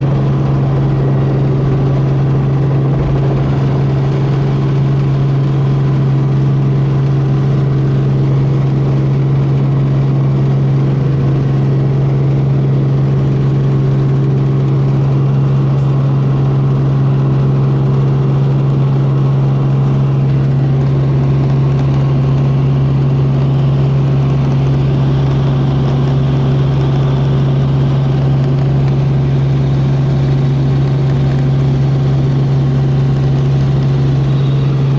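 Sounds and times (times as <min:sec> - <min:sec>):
helicopter engine and rotor drone: 0:00.0 - 0:34.9.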